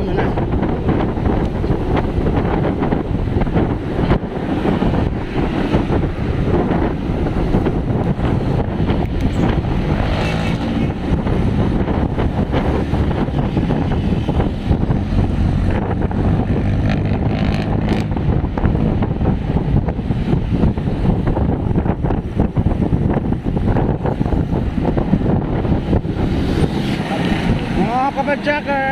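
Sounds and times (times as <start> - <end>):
passing traffic engines: 0.0 - 28.9
wind buffeting microphone: 0.0 - 28.9.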